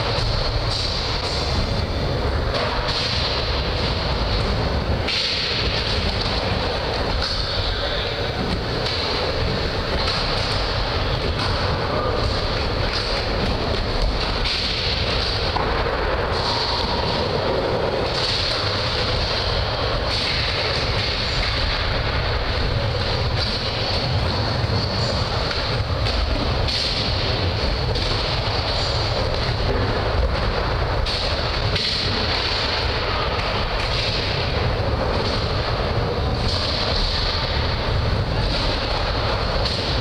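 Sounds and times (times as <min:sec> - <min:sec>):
skateboard wheels rolling on wood: 0:00.0 - 0:40.0.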